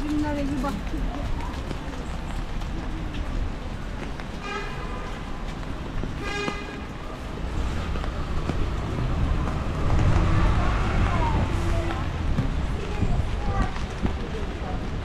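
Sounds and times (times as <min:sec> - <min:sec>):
rain: 0:00.0 - 0:15.0
traffic: 0:00.0 - 0:15.0.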